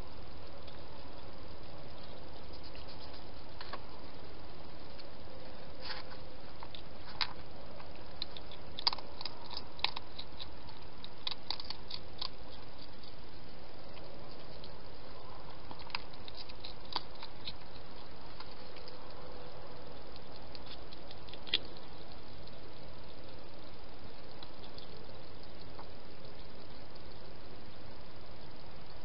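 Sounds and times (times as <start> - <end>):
steady background hiss: 0.0 - 29.0
hedgehog crunching food: 0.3 - 29.0.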